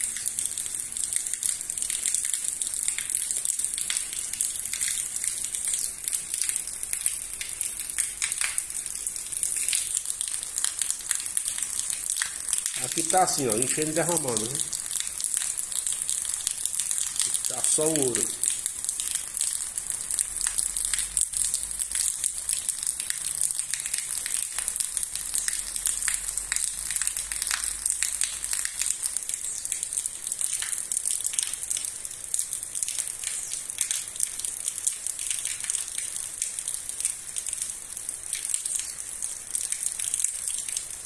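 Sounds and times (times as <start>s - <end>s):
steady rain patter: 0.0s - 41.0s.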